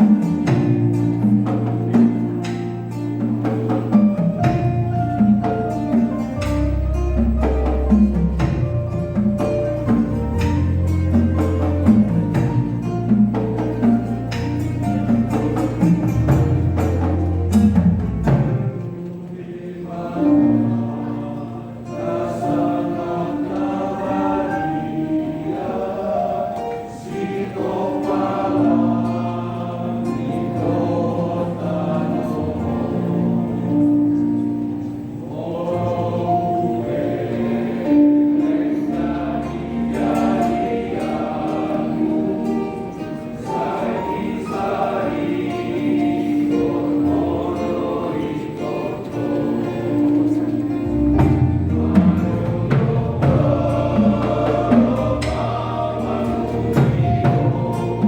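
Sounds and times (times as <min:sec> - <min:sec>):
instrumental accompaniment: 0:00.0 - 0:58.0
vocal group singing in harmony: 0:00.0 - 0:58.0.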